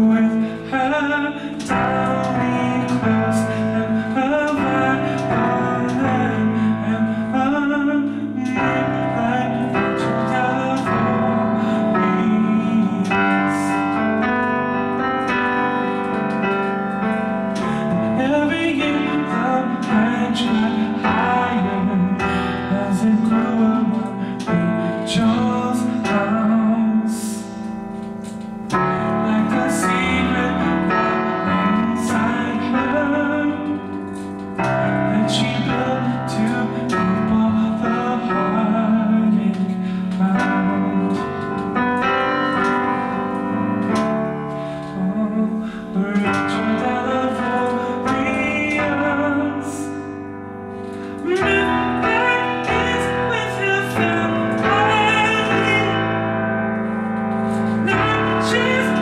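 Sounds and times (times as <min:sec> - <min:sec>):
digital piano chords: 0:00.0 - 0:59.0.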